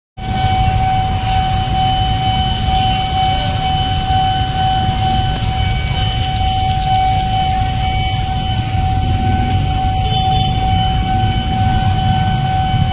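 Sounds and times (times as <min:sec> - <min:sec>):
high steady tone: 0:00.2 - 0:12.9
motorbike and street traffic rumble: 0:00.2 - 0:12.9.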